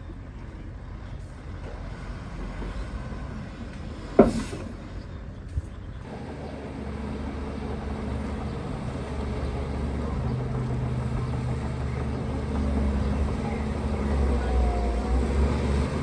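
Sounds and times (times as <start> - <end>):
diesel machinery rumbling: 0.0 - 16.0.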